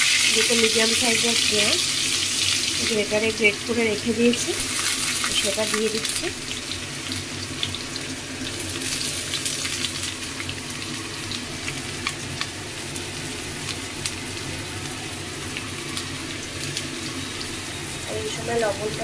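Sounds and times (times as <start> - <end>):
onion sizzling in hot oil: 0.0 - 19.0.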